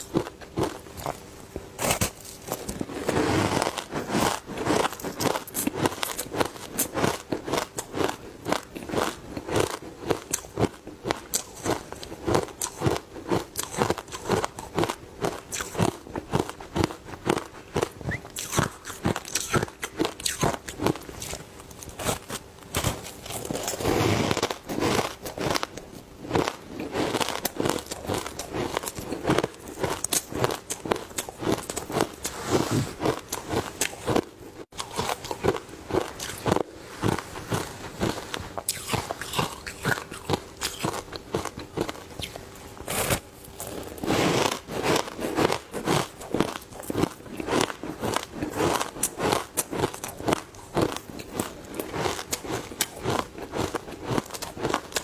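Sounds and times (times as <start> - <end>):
ice crunching while chewed: 0.0 - 55.0.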